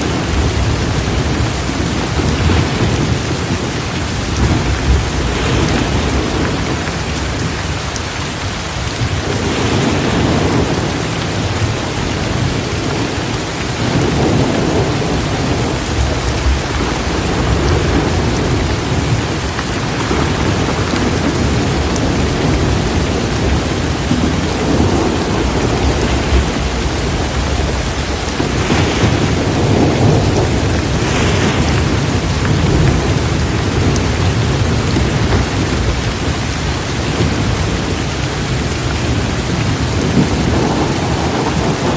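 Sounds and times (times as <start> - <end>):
rolling thunder: 0.0 - 7.8, 9.0 - 41.9
heavy rain falling: 0.0 - 41.9.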